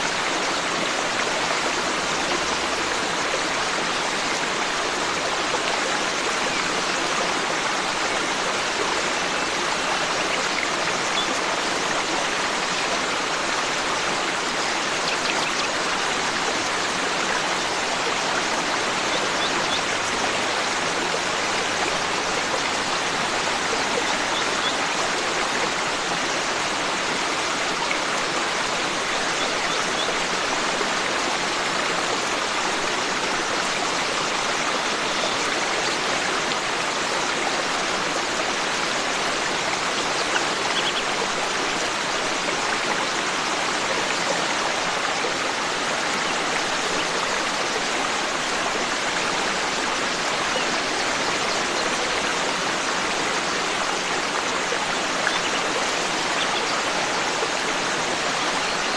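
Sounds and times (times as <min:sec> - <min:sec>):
forest stream flowing: 0:00.0 - 0:58.9.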